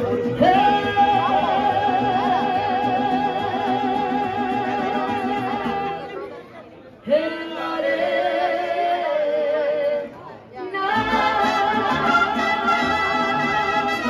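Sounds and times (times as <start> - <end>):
mariachi band playing: 0.0 - 6.4, 7.0 - 14.0.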